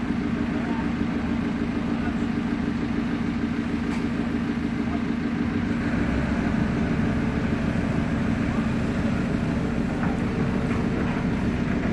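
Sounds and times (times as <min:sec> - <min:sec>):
diesel engine droning: 0:00.0 - 0:11.9.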